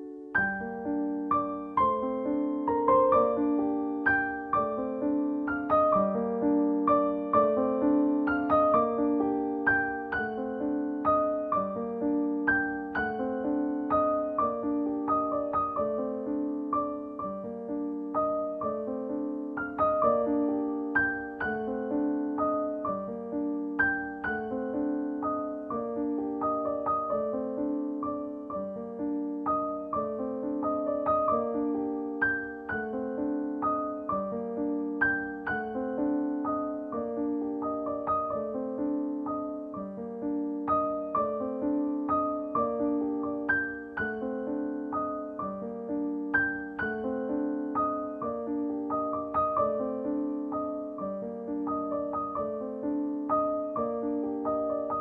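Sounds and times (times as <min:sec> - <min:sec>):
gentle piano music: 0:00.0 - 0:55.0.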